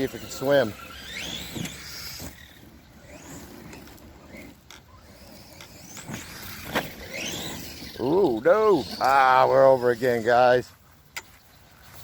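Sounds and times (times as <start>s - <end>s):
electric motor whining: 0.0s - 10.3s
tyres on dirt: 0.0s - 12.0s.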